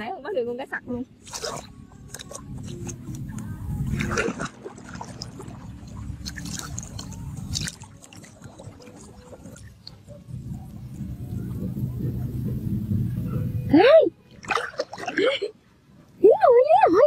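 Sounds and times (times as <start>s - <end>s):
water sloshing and splashing: 1.0s - 12.6s, 14.0s - 16.3s.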